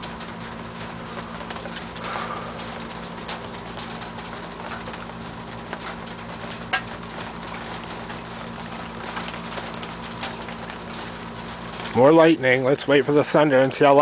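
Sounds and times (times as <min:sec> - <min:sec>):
hailstones ticking on surfaces: 0:00.0 - 0:14.0
rain and hail falling: 0:00.0 - 0:14.0.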